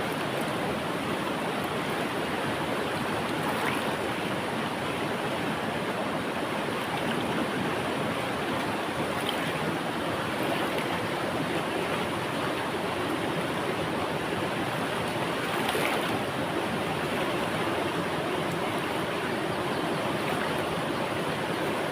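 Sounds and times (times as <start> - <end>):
faint water splashes: 0.0 - 21.9
river water rushing: 0.0 - 21.9.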